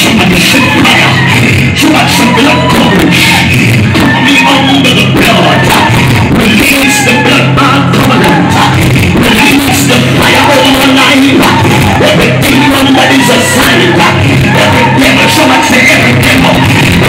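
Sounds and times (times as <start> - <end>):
worship music with singing: 0.0 - 17.0.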